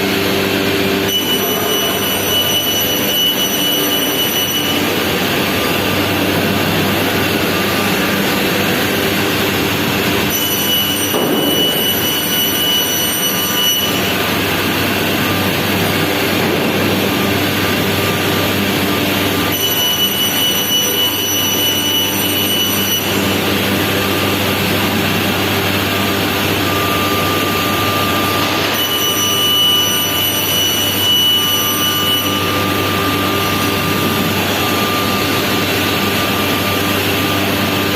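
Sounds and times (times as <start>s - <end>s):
high-pitched whine: 0.0s - 37.9s
woodworking machine roaring: 0.0s - 37.9s.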